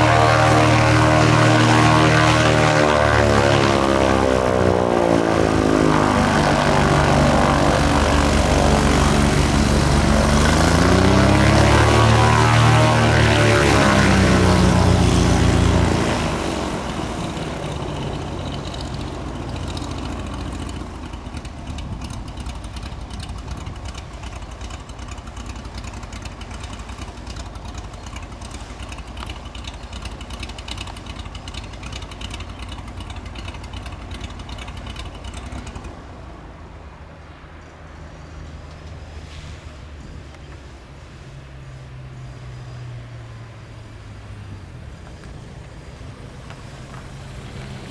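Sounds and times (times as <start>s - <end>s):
twin propeller aircraft engines: 0.0s - 47.9s.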